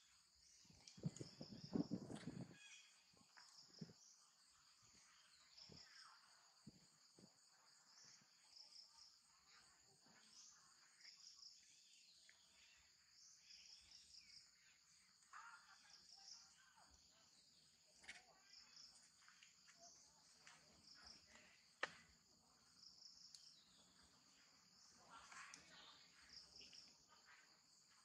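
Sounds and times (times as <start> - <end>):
insect chorus chirring: 0.0 - 28.0.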